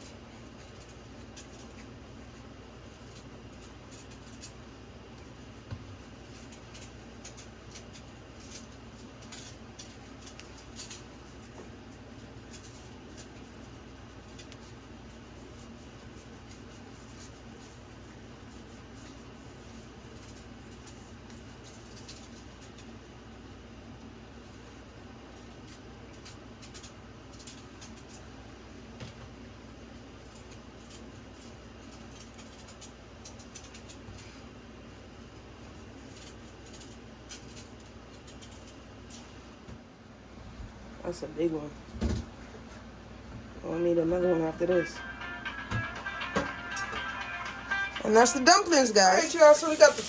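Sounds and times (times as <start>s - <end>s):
hands rubbing dough: 0.0s - 45.2s, 46.9s - 50.0s
steady low hum: 0.0s - 50.0s.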